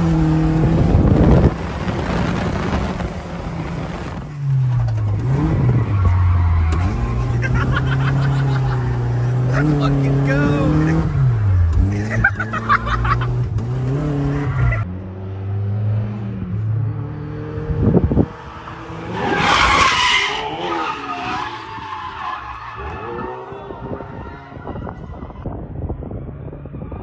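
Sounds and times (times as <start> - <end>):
car engine revving: 0.0 - 25.4.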